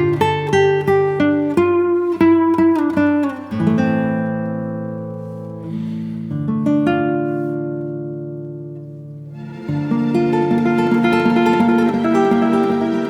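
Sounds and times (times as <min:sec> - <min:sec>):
acoustic guitar plucking: 0:00.0 - 0:13.0.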